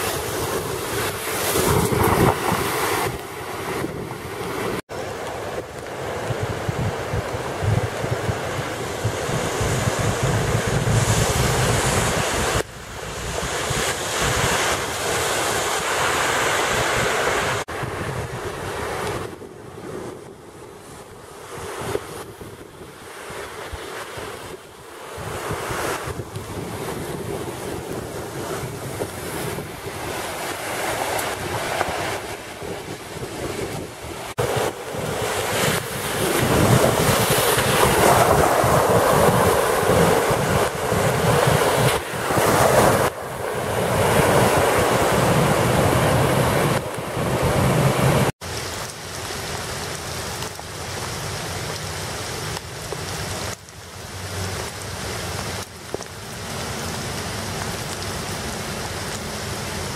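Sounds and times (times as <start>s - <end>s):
wind buffeting microphone: 0.0s - 49.6s
floodwater cascading over wall: 0.0s - 59.9s
heavy rain: 0.0s - 59.9s.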